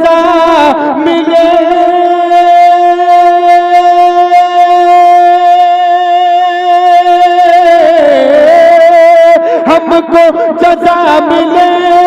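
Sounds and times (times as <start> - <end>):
man singing with echo: 0.0 - 12.0.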